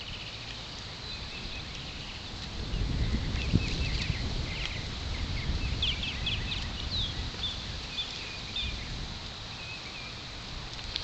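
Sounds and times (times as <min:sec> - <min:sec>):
wild birds chirping: 0:00.0 - 0:11.0
wind buffeting microphone: 0:00.8 - 0:11.0.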